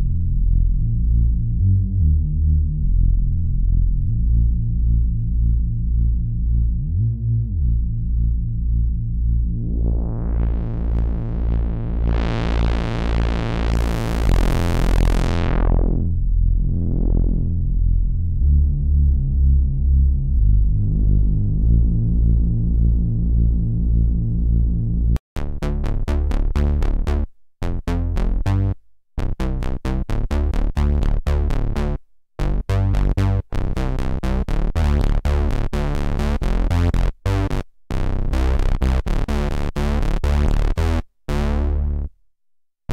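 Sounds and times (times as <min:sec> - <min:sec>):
synthesizer bass: 0:00.0 - 0:42.2.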